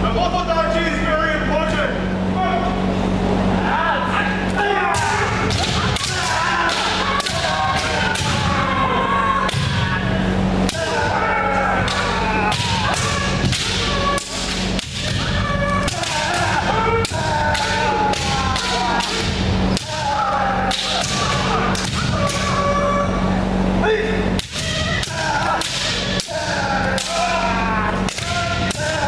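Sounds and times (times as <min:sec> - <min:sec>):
people shouting: 0:03.5 - 0:29.0.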